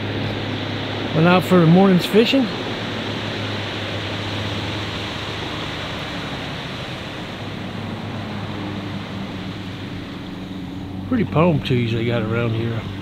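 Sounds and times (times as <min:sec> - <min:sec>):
outboard motor humming: 0:00.0 - 0:13.0
water rushing: 0:00.0 - 0:13.0.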